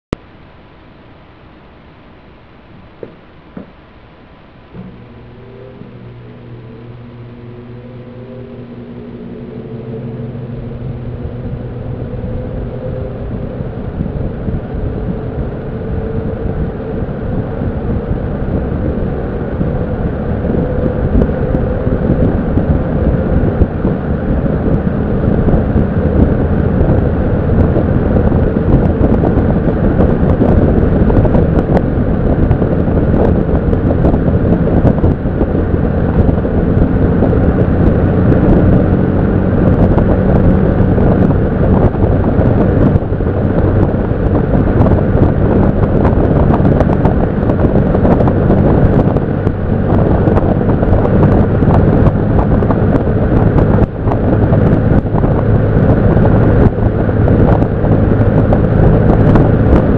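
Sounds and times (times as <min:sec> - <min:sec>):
low motor hum: 0:00.0 - 0:59.9
box fan air rush: 0:00.1 - 0:59.9.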